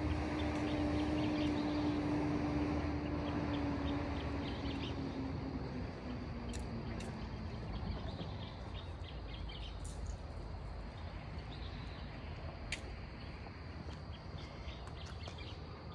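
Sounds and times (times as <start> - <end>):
steady low rumble: 0.0 - 15.9.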